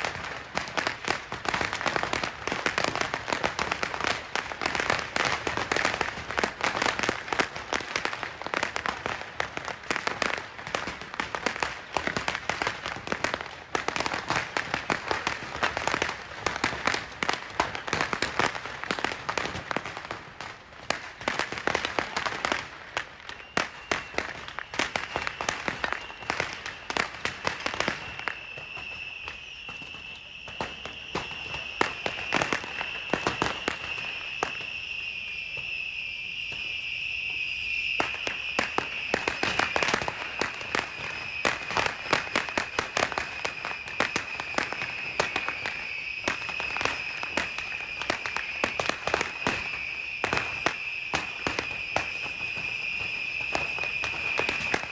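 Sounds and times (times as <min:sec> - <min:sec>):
firework cracks and bangs: 0:00.0 - 0:54.9
high rocket whistle: 0:00.0 - 0:54.9.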